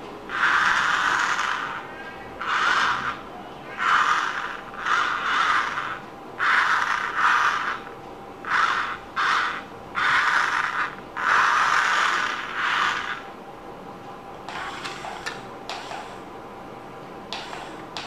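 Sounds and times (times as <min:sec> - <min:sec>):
toy motor and gearbox whirring: 0:00.3 - 0:13.2, 0:14.5 - 0:16.2.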